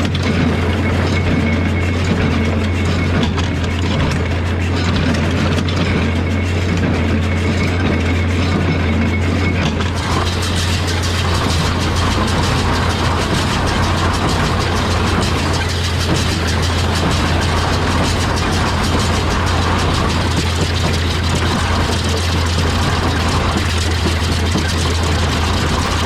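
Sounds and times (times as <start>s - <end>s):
baler mechanical rattle: 0.0s - 26.0s
tractor engine running: 0.0s - 26.0s.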